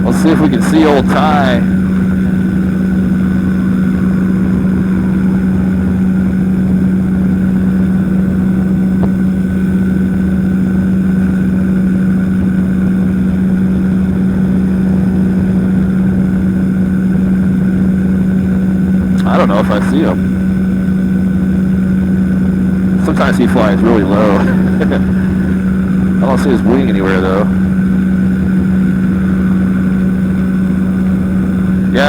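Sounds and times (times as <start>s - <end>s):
engine and propeller humming: 0.0s - 32.0s.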